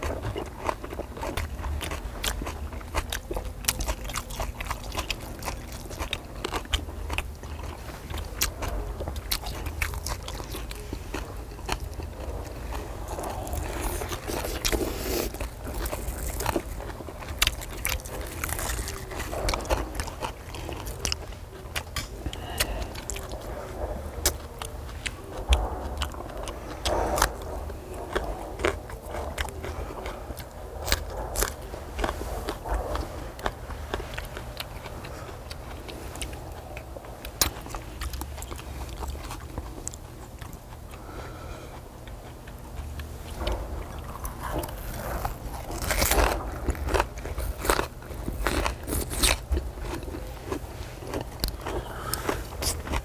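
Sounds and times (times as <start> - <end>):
people chewing food: 0.0 - 53.0
steady low hum: 0.0 - 53.0.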